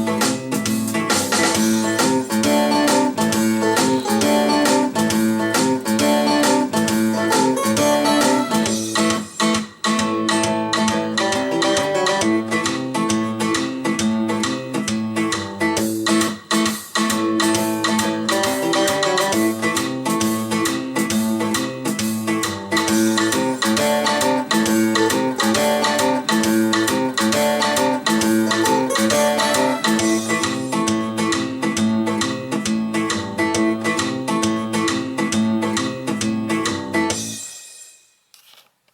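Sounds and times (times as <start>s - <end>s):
blues-rock guitar music: 0.0s - 37.5s.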